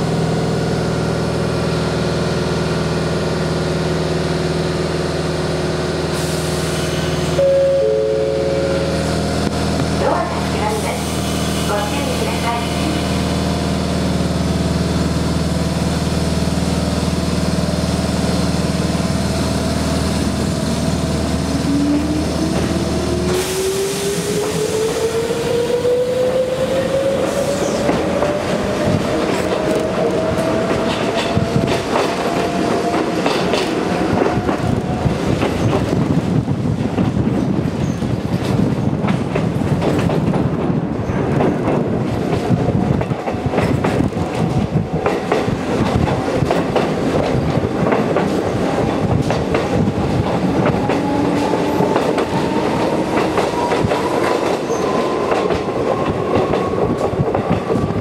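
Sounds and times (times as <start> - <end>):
electric train low hum: 0.0 - 58.0.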